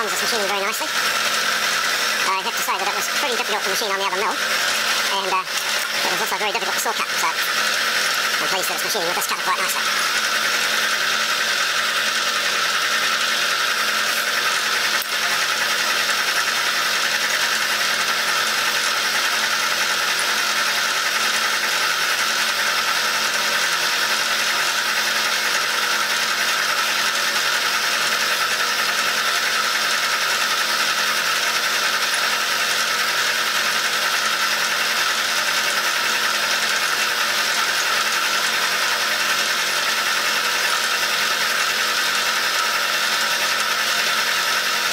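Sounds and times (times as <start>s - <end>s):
milling machine cutting metal: 0.0s - 44.9s.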